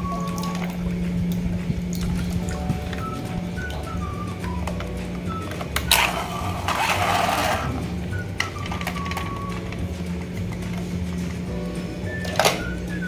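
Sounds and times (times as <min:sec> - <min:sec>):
water splashing in a basin: 0:00.0 - 0:11.5
background music with drone: 0:00.0 - 0:13.0.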